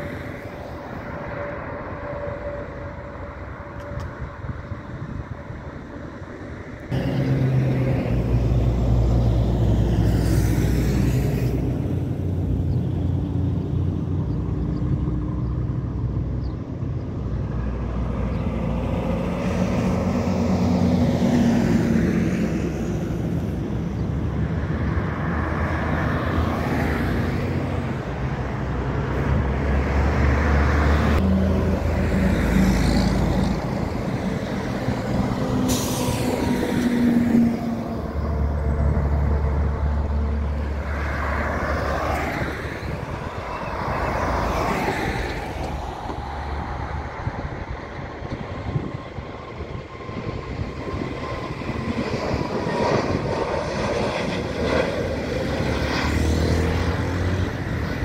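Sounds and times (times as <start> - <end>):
cars and trucks passing: 0.0 - 58.0
low traffic rumble: 0.0 - 58.0.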